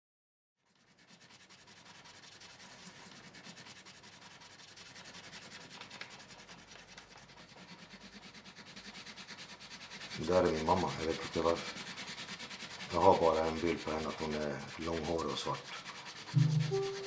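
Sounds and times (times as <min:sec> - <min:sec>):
paintbrush scrubbing on paper: 0:00.6 - 0:17.0.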